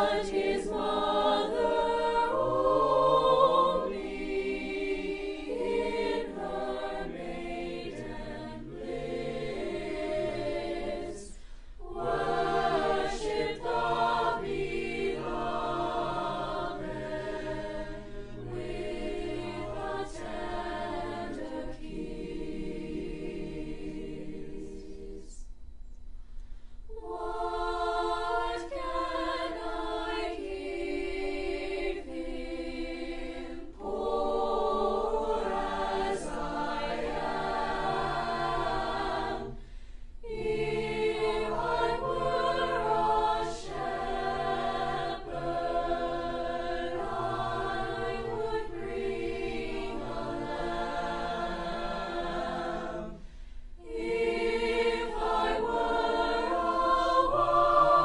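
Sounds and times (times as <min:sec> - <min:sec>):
choir singing: 0:00.0 - 0:25.5, 0:26.9 - 0:58.0.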